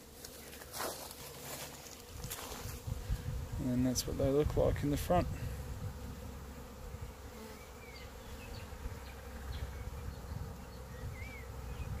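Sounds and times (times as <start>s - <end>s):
bees buzzing: 0.0s - 4.5s, 5.1s - 12.0s.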